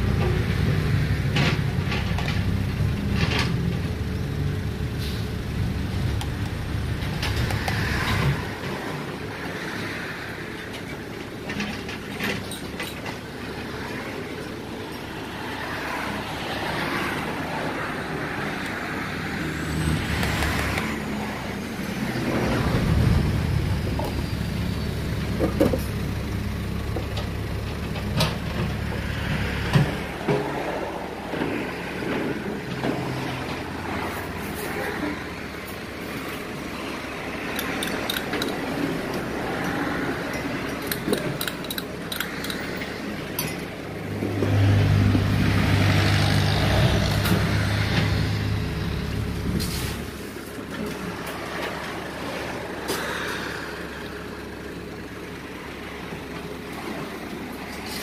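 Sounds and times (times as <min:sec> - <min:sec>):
low rumble of road traffic: 0:00.0 - 0:58.0.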